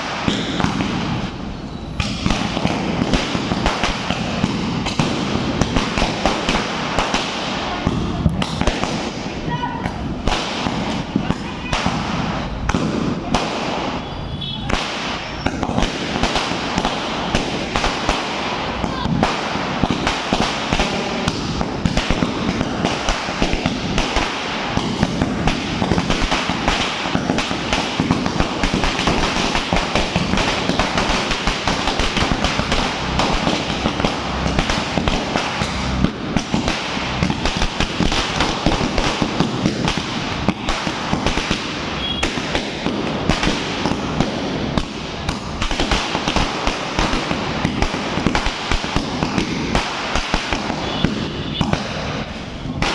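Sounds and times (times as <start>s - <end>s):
firecracker string crackling: 0.0s - 52.9s.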